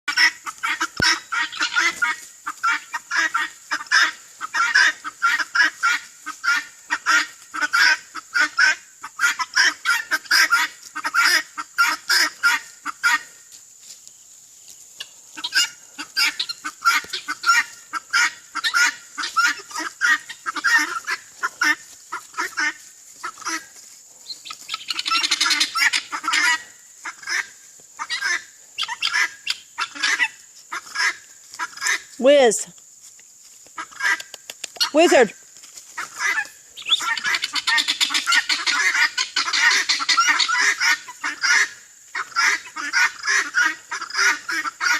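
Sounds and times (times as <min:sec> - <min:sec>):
flock of birds honking: 0:00.1 - 0:13.5, 0:15.0 - 0:32.1, 0:36.0 - 0:44.9.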